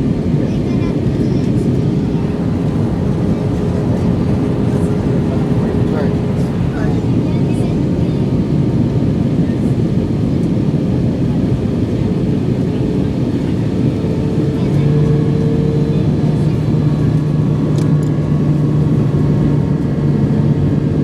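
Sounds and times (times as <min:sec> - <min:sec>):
aircraft cabin engine rush: 0:00.0 - 0:21.0
low hum: 0:00.8 - 0:21.0.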